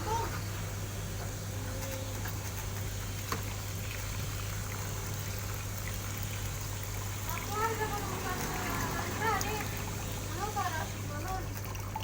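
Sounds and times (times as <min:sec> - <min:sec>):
constant low hum: 0:00.0 - 0:12.0
water trickling: 0:00.0 - 0:12.0.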